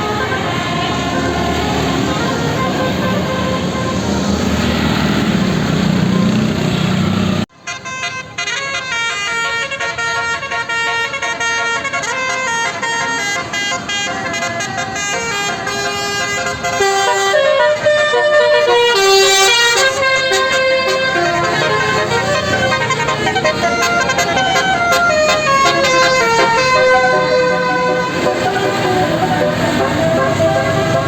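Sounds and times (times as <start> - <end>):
bus musical air horn melody: 0.0 - 6.8, 7.4 - 31.0
loud dense noise: 0.0 - 31.0.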